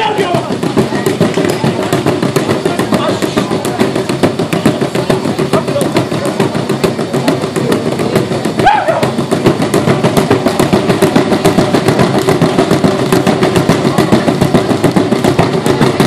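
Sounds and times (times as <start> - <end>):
drum beaten in fast rhythm: 0.0 - 16.0.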